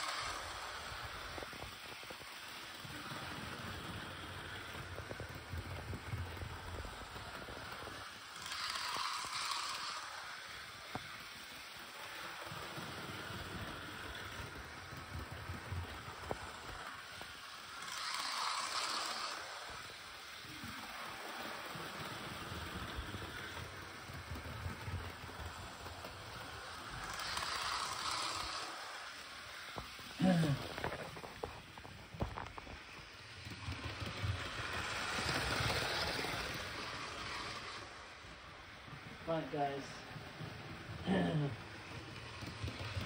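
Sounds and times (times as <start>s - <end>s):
model train motor whirring on track: 0.0s - 43.0s.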